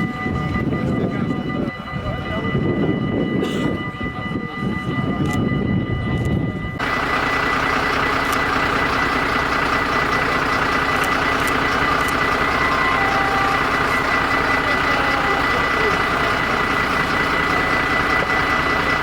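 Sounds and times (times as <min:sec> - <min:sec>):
heavy engine idling: 0:00.0 - 0:19.0.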